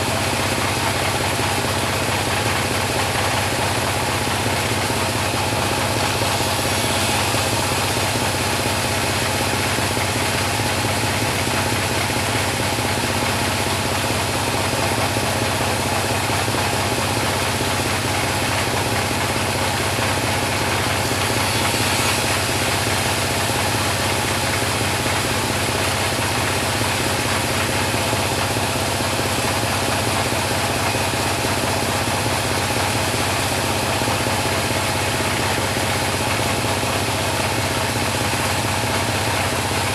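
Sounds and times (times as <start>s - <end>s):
bandsaw sawmill droning: 0.0s - 39.9s.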